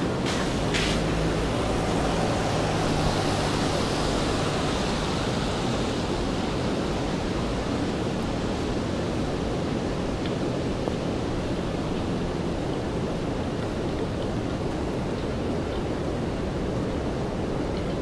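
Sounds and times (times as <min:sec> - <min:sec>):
rain on a wet street: 0:00.0 - 0:18.0.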